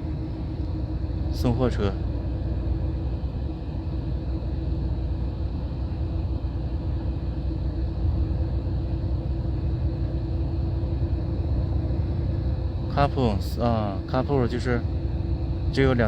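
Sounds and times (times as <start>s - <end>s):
coach engine and road noise: 0.0s - 16.0s
faint constant hum: 0.0s - 16.0s.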